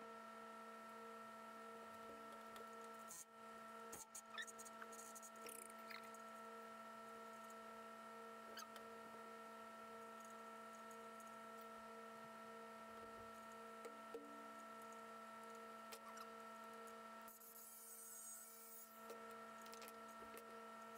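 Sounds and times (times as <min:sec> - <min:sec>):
steady electrical hum: 0:00.0 - 0:20.9.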